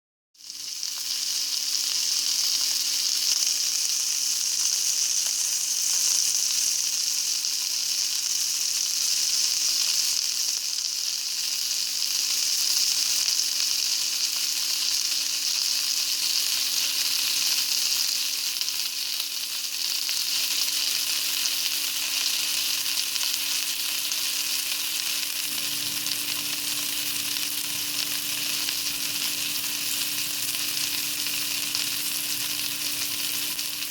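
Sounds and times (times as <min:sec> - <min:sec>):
meat sizzling in a pan: 0:00.4 - 0:33.9.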